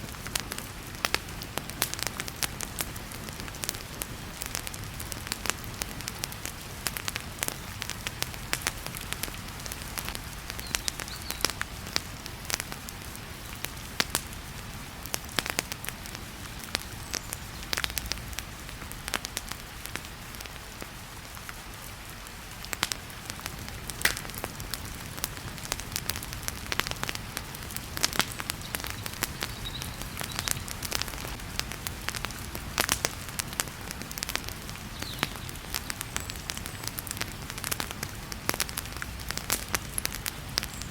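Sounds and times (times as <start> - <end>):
heavy rain: 0.0 - 40.9
wood fire crackling and popping: 0.0 - 40.9.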